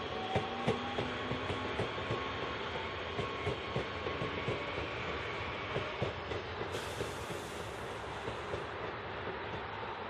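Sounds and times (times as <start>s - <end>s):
train running rumble: 0.0s - 10.0s
train wheels clacking on rails: 0.0s - 10.0s.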